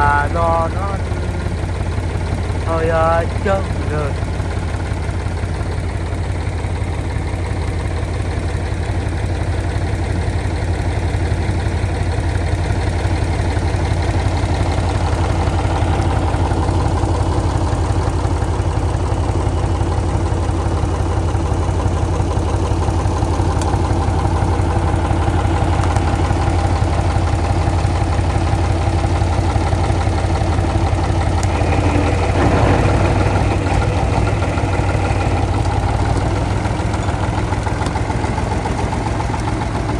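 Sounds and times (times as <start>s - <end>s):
truck diesel engine humming: 0.0s - 39.9s.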